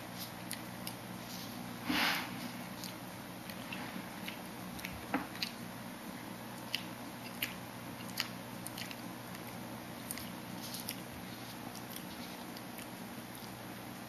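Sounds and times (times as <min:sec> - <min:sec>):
person chewing and smacking: 0:00.0 - 0:01.7, 0:02.5 - 0:14.0
faint low hum: 0:00.0 - 0:14.0.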